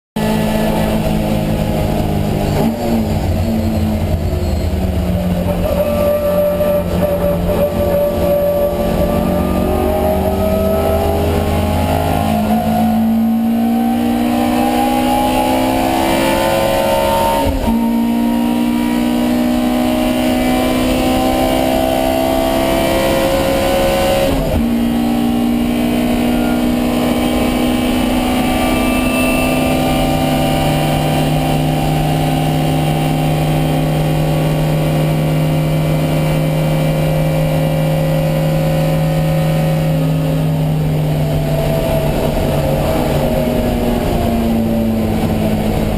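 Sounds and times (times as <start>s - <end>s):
race car engine revving: 0.2s - 45.9s.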